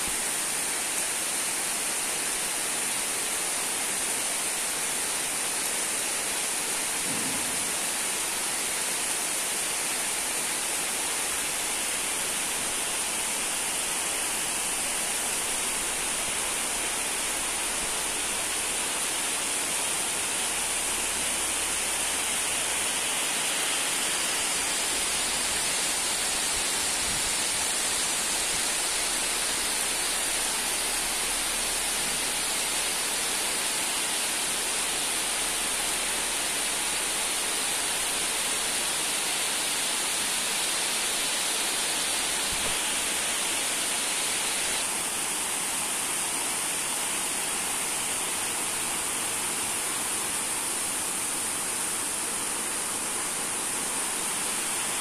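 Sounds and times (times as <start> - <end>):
heavy rain on pond and trees: 0.0 - 55.0.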